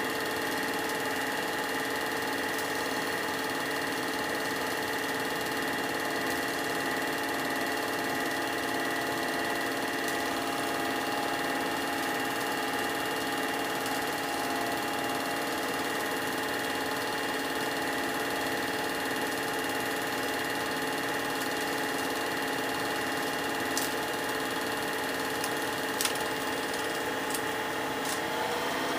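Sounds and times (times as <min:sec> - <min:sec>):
film projector running: 0:00.0 - 0:28.9.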